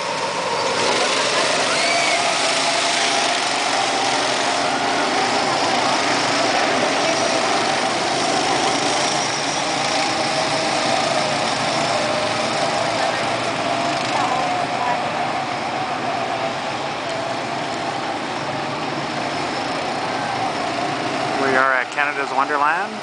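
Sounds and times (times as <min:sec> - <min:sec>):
go-kart engines droning: 0:00.0 - 0:23.0.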